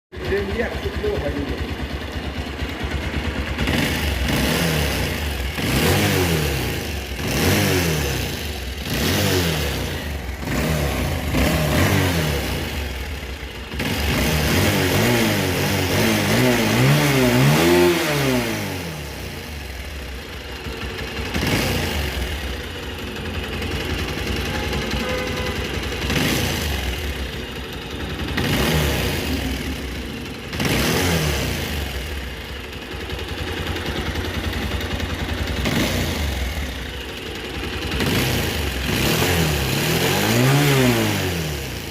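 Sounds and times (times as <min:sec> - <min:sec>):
motorcycle engine revving: 0:00.1 - 0:41.9.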